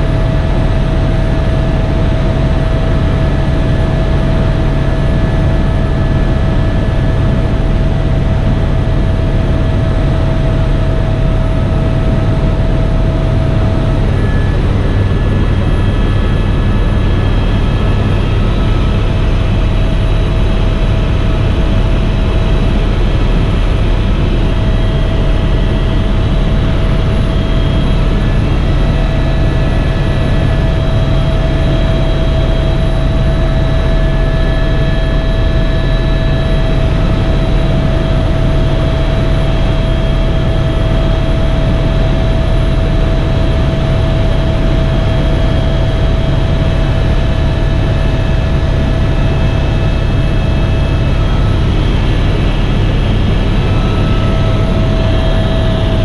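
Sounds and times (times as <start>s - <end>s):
helicopter rotor and turbine noise: 0.0s - 56.0s
turbine whine: 0.0s - 56.0s.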